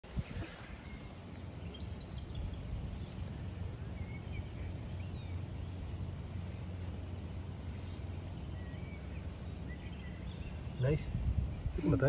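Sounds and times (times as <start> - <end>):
steady low rumble: 0.0 - 12.0
faint bird chirps: 0.1 - 12.0.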